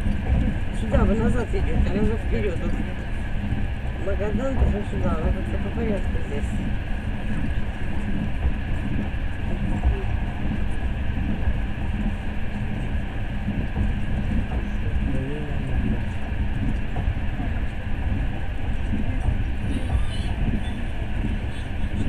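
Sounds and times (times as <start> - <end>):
train carriage rumble: 0.0 - 22.0.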